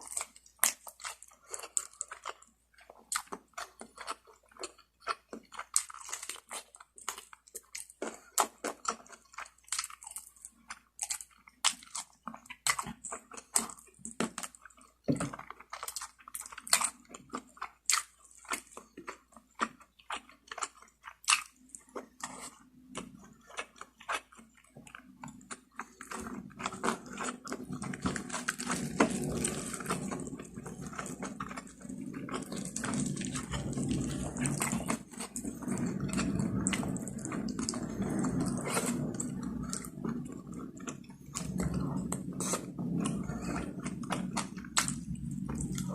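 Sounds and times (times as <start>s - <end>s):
crisp biting and chewing: 0.0s - 45.9s.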